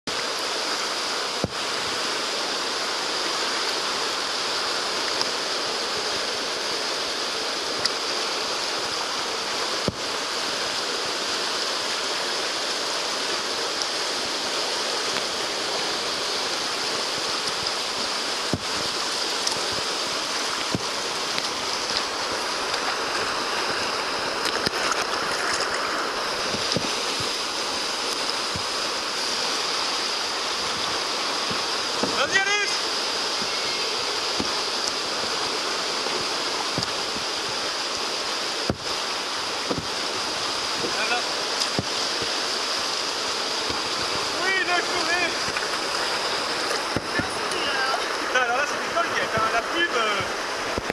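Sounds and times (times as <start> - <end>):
whitewater rushing: 0.1 - 50.9.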